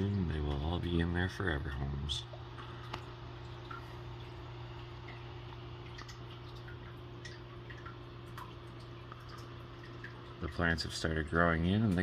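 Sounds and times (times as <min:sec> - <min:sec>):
soft ticks and drip-like blips: 0:00.0 - 0:12.0
steady low hum: 0:00.0 - 0:12.0.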